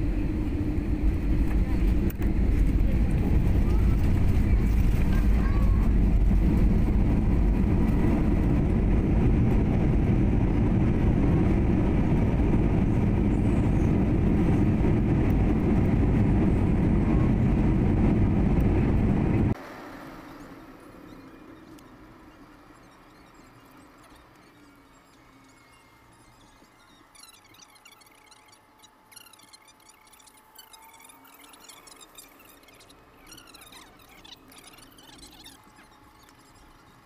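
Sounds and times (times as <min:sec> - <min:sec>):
vehicle rumble in motion: 0:00.0 - 0:37.0.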